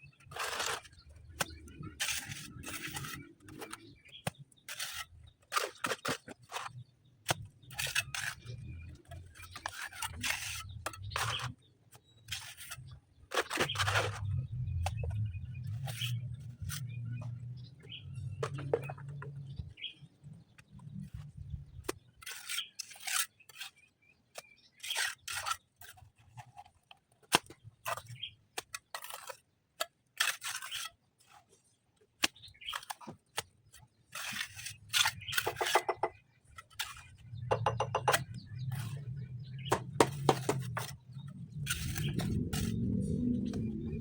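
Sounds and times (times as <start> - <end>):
scraping and knocking on stone: 0.1 - 29.4, 32.2 - 44.0.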